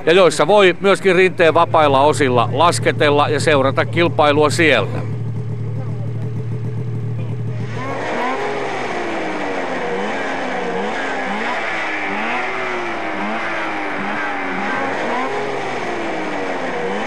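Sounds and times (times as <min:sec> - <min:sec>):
snowmobile engines revving and idling: 0:00.0 - 0:17.0.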